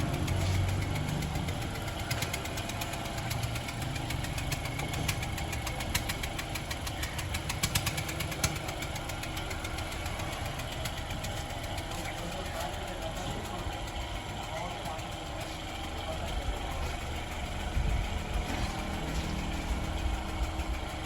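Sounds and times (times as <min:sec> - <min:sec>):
car engine running: 0:00.0 - 0:21.0
rapid irregular engine ticking: 0:00.0 - 0:21.0.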